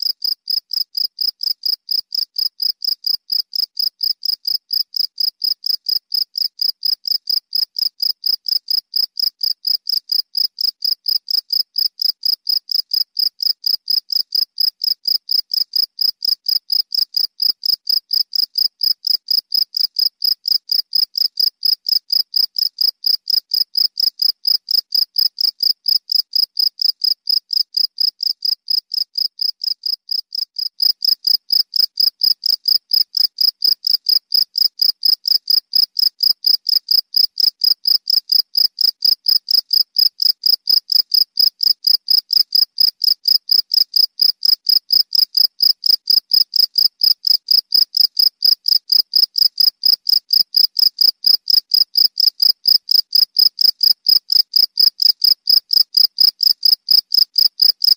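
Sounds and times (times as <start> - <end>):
cricket chirping: 0.2 - 57.9.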